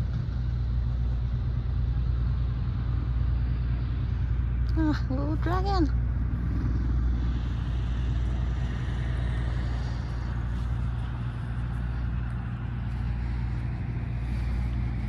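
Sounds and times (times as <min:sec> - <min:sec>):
low rumble with deep hum: 0:00.0 - 0:15.0.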